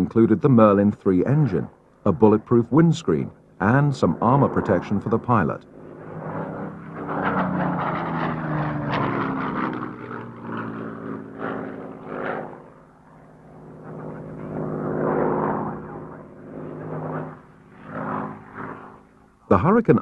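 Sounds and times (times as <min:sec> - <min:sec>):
propeller plane engine flying past: 0:00.0 - 0:20.0.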